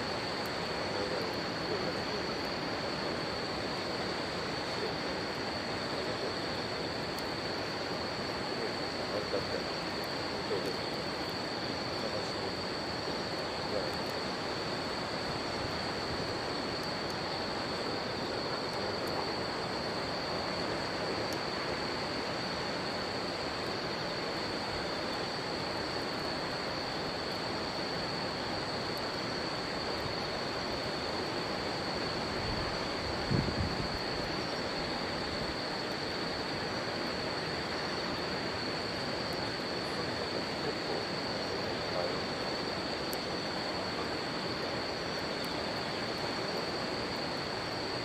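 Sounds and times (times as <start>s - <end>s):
faint wood fire crackles: 0.0s - 48.0s
insect trill: 0.0s - 48.0s.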